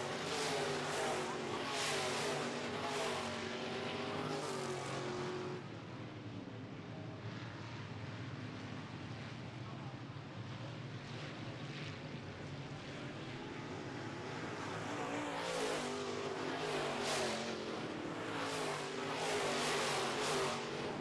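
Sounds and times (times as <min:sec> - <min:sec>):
race car engines passing by: 0:00.0 - 0:07.8, 0:10.0 - 0:21.0.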